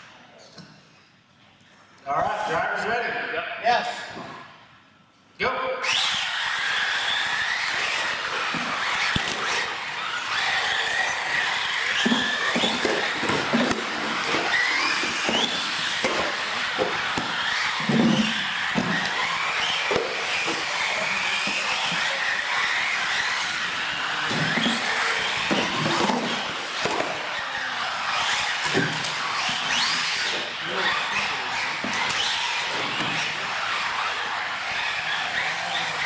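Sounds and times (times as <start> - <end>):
toy car motors whining: 5.8 - 36.0
tyre noise on concrete: 6.0 - 36.0.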